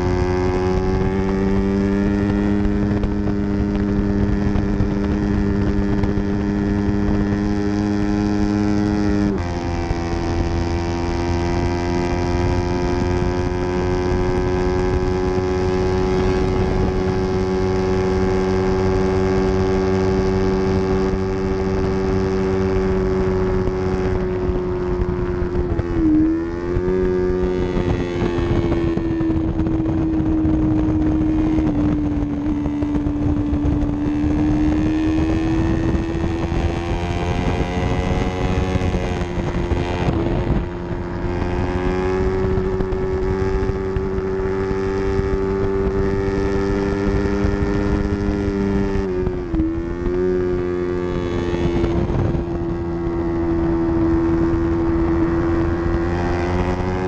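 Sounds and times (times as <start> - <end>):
motorcycle engine at high revs: 0.0 - 57.0
wind rushing: 0.0 - 57.0.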